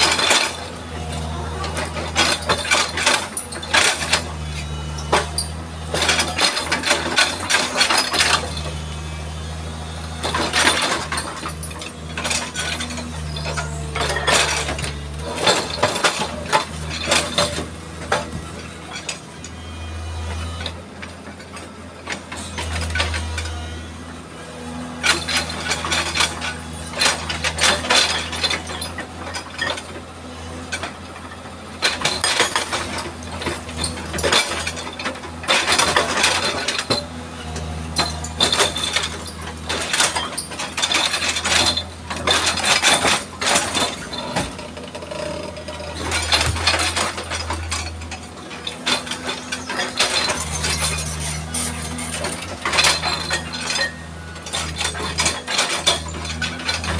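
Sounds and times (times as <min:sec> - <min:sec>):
hydraulic rock breaker hammering: 0:00.0 - 0:24.1, 0:25.0 - 0:56.9
diesel engine running: 0:00.0 - 0:56.9.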